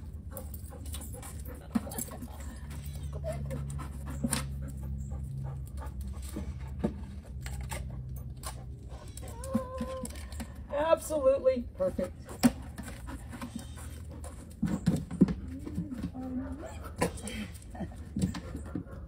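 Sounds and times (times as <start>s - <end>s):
dog panting: 0.0s - 9.6s, 11.6s - 19.0s.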